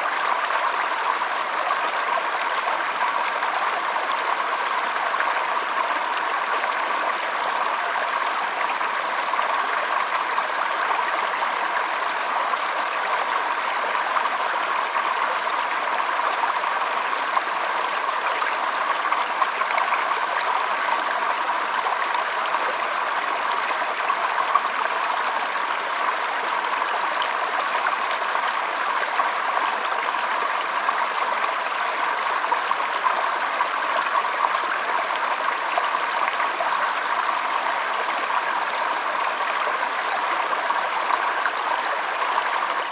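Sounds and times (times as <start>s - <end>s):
stream water babbling: 0.0s - 42.9s.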